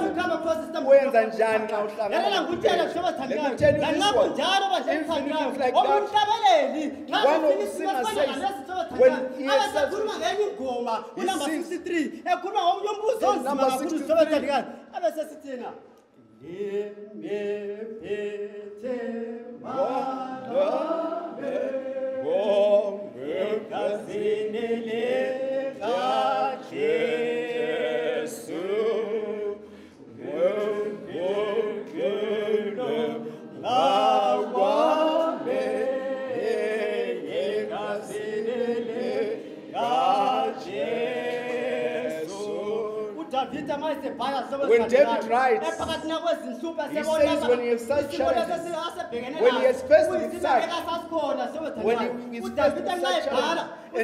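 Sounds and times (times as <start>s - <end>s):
unaccompanied hymn singing: 0.0s - 11.8s, 12.4s - 54.0s.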